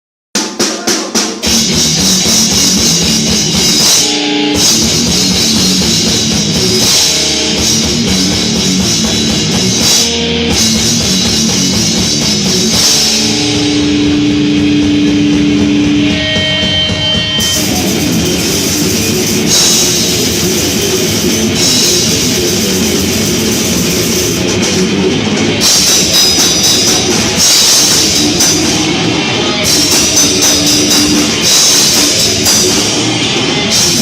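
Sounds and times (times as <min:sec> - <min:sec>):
heavy metal band playing: 0:00.4 - 0:34.0.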